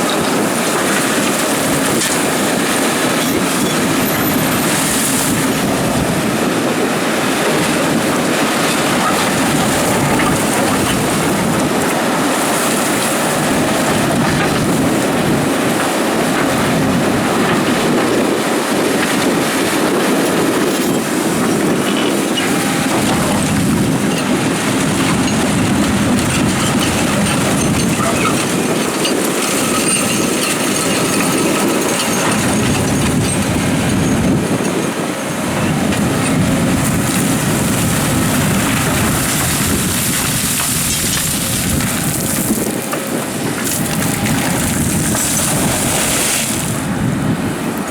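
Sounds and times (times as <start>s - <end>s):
gravel grinding in bucket: 0.0s - 34.5s, 35.8s - 47.9s
excavator engine and hydraulics: 0.0s - 47.9s.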